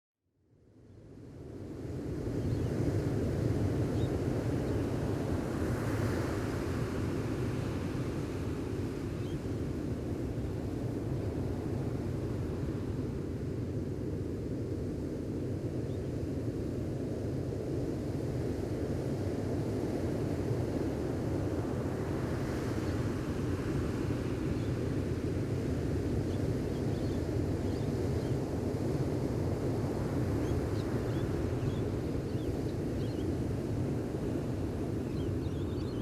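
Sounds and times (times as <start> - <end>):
ocean waves on a beach: 1.4 - 15.6, 16.4 - 36.0.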